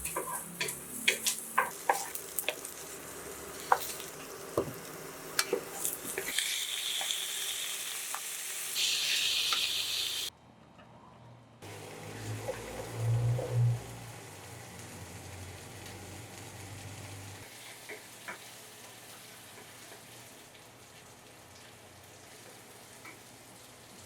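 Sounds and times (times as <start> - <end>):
food sizzling in a pan: 0.0 - 10.3, 11.7 - 24.0.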